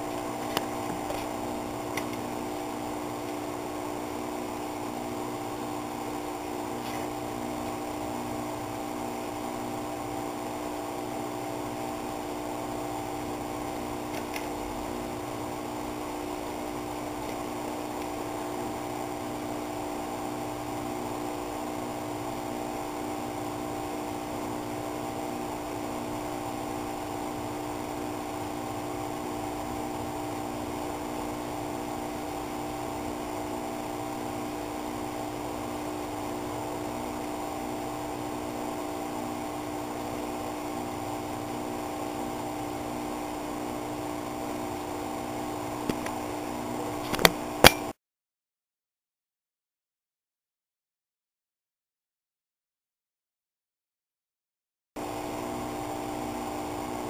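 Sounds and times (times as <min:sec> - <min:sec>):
mechanical hum: 0:00.0 - 0:48.0, 0:55.0 - 0:57.0.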